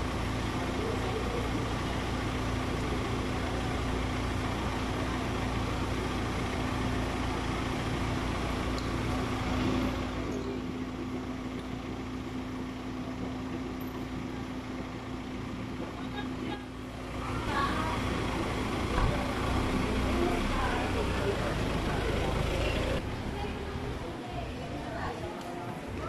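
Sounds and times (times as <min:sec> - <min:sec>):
van engine idling: 0:00.0 - 0:26.0.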